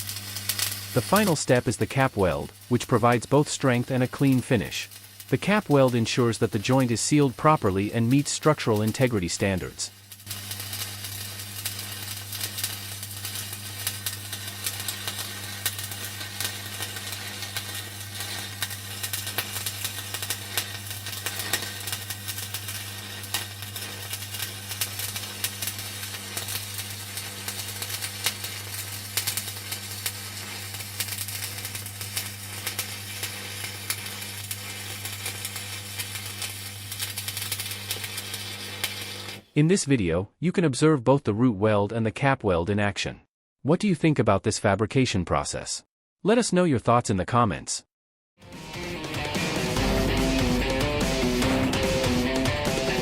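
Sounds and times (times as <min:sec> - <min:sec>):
welding arc crackling and sizzling: 0:00.0 - 0:39.5, 0:48.4 - 0:53.0.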